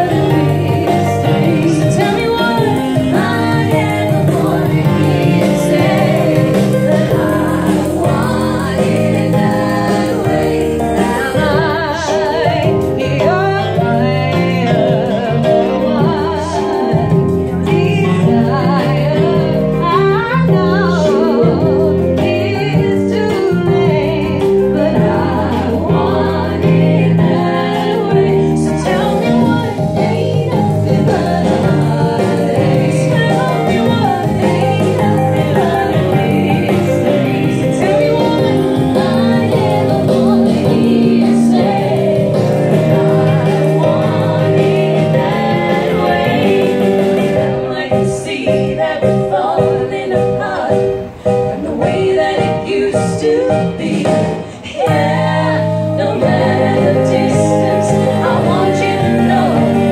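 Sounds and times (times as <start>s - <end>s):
women singing in harmony: 0.0s - 59.9s.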